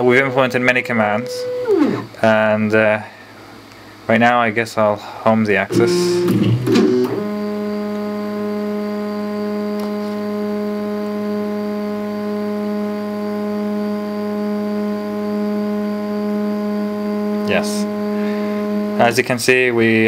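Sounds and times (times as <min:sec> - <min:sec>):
stepper motors whining: 0:00.0 - 0:02.3, 0:05.8 - 0:20.0.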